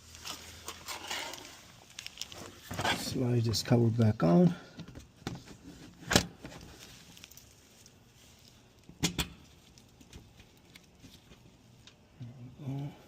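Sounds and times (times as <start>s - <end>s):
light ticks and handling noises: 0.0s - 5.6s, 6.4s - 13.0s.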